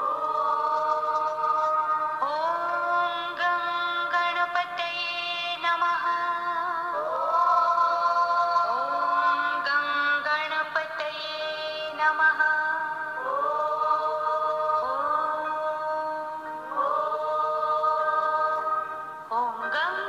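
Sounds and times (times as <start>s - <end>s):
mantra chanting: 0.0s - 20.0s.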